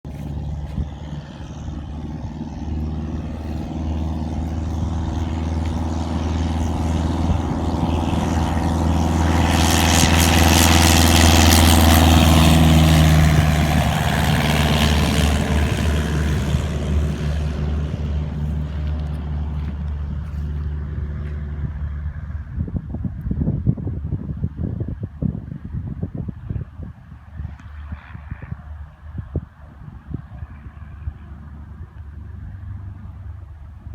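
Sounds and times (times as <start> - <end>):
propeller plane engine droning: 0.0 - 33.9.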